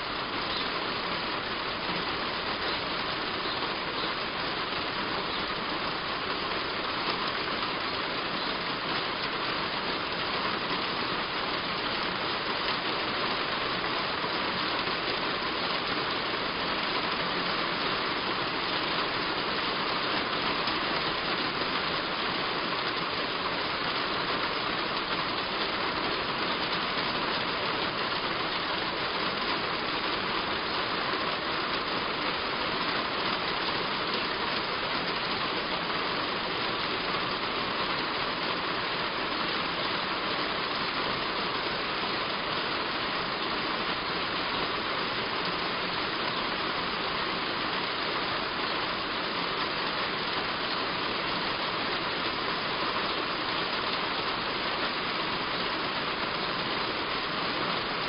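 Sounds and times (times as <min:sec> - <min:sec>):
heavy rain on a roof: 0:00.0 - 0:58.0.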